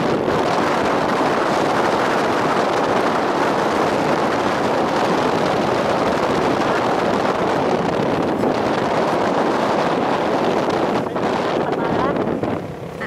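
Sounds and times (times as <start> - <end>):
motorcycle running: 0.0 - 13.0
wind rushing over microphone: 0.0 - 13.0.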